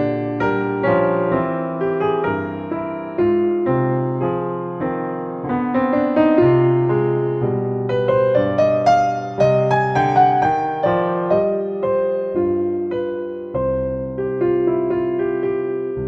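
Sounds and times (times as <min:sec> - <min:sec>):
slow solo piano music: 0:00.0 - 0:16.0.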